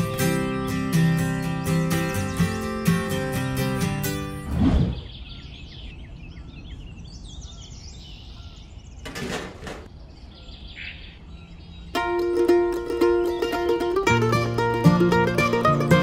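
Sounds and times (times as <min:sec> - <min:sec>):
small birds chirping: 0:00.0 - 0:14.7.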